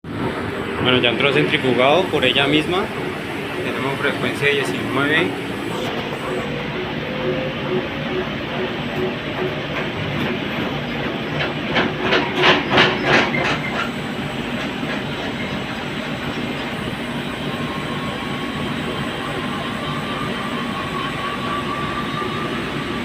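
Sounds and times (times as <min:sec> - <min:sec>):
washing machine drum spinning: 0:00.1 - 0:19.8.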